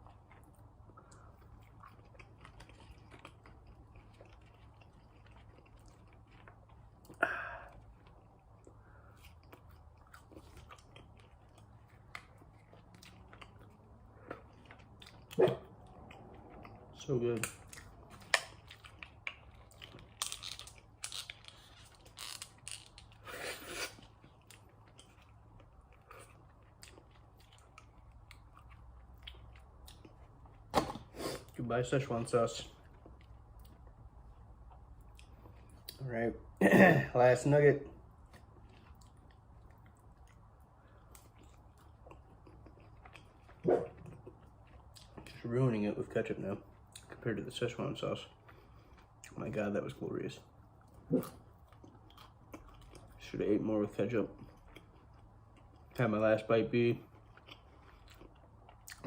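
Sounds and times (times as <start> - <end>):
person chewing food: 0.0 - 31.6, 32.7 - 36.0, 37.8 - 45.4, 46.6 - 47.2, 48.2 - 49.5, 50.4 - 53.2, 54.3 - 56.0, 57.0 - 59.0
faint low hum: 0.0 - 59.0.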